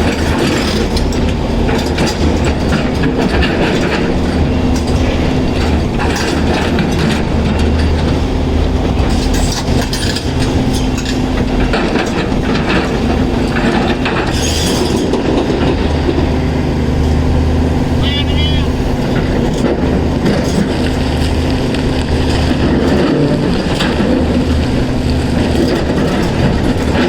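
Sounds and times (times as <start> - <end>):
rock and metal clattering: 0.0 - 18.0, 18.9 - 27.0
excavator diesel engine droning: 0.0 - 27.0.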